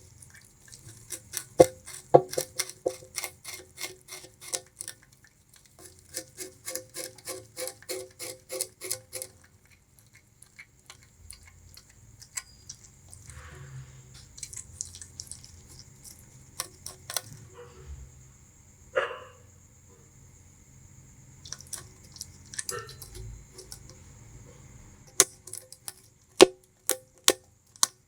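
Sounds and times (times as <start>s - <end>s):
rat gnawing sugarcane crunches: 0.0s - 17.6s, 21.4s - 28.0s.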